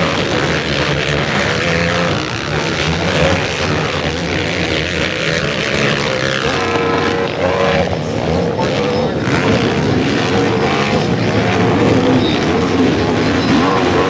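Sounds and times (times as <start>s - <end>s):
quad engines revving: 0.0s - 14.0s.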